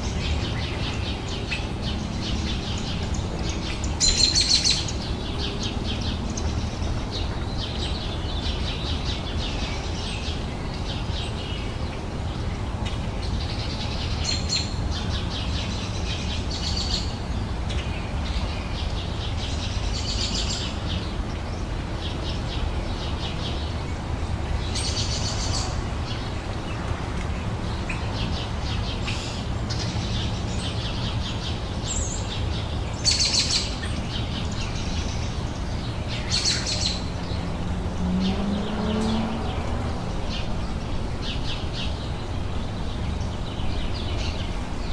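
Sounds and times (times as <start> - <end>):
songbirds chirping and singing: 0.0 - 44.9.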